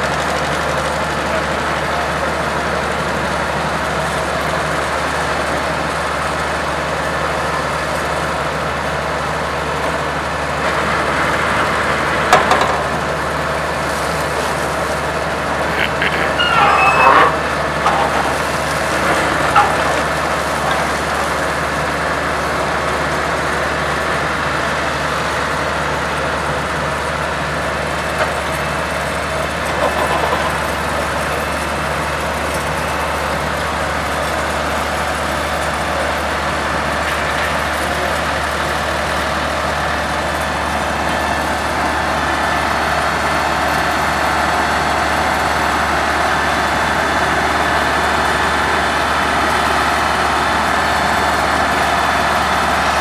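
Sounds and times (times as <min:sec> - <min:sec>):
construction machinery engines running: 0:00.0 - 0:53.0.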